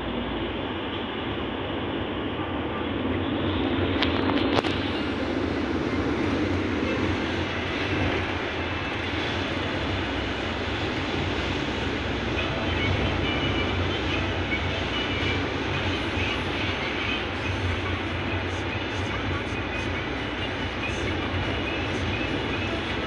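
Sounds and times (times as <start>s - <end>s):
road and tyre noise in car: 0.0s - 23.0s.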